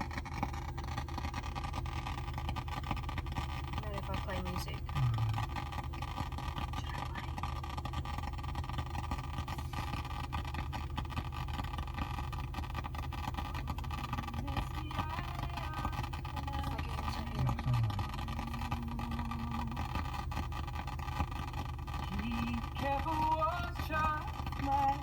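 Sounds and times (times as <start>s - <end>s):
crackling clicks: 0.0s - 25.0s
low hum: 0.0s - 25.0s.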